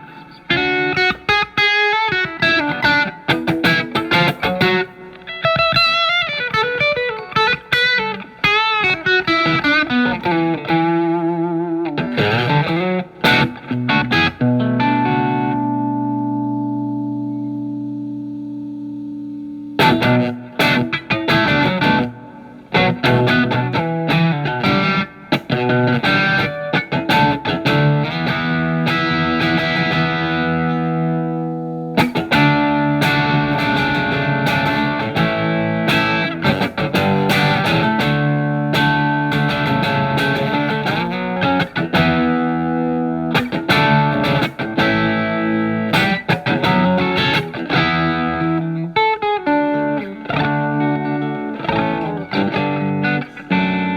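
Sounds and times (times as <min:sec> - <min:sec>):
overdriven electric guitar: 0:00.0 - 0:53.9.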